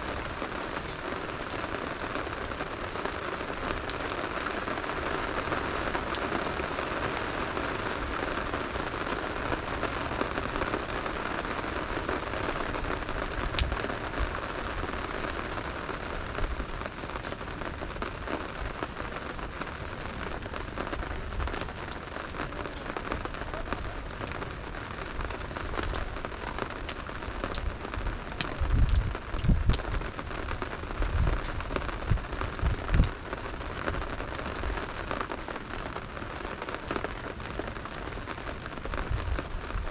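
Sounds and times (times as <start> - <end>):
campfire crackling and popping: 0.0 - 39.9
steady rain hissing: 0.0 - 39.9.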